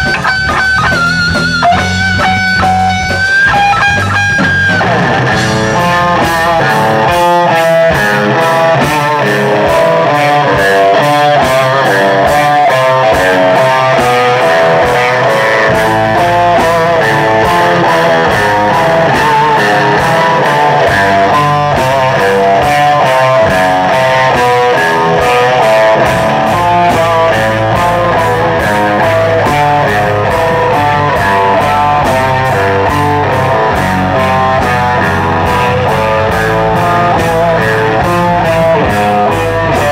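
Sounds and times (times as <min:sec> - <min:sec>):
metal band playing: 0:00.0 - 0:39.9.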